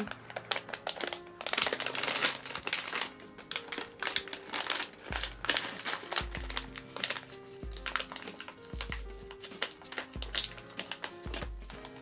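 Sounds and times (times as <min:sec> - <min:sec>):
plastic sweet packet crackling: 0:00.0 - 0:12.0.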